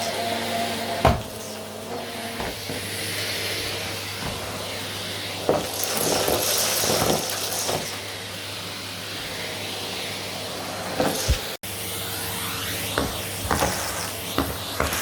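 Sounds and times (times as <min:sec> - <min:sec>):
vacuum cleaner running: 0:00.0 - 0:15.0
vacuum swishing over floor: 0:00.1 - 0:11.6, 0:12.2 - 0:15.0.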